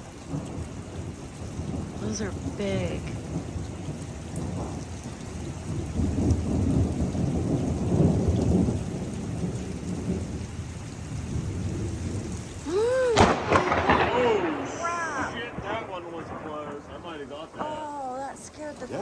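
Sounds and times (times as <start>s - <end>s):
heavy rain: 0.0s - 19.0s
rolling thunder: 0.0s - 19.0s.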